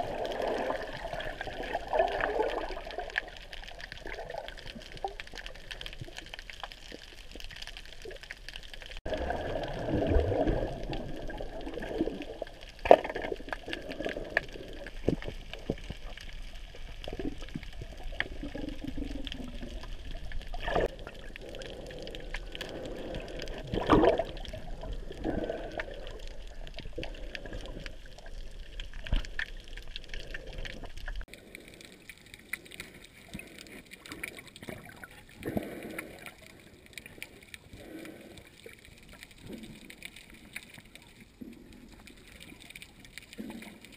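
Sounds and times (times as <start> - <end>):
water splashing and sloshing: 0.0 - 43.9.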